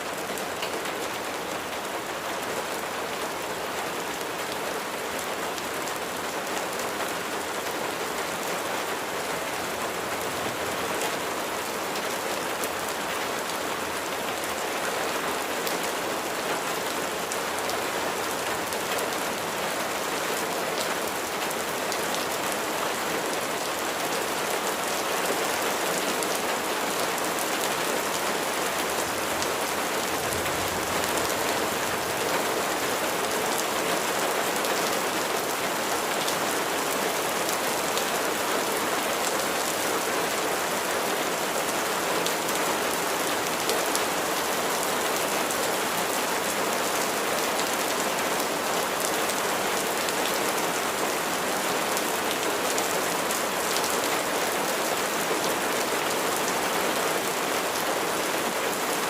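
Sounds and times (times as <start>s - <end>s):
steady rainfall pattering: 0.0s - 59.0s.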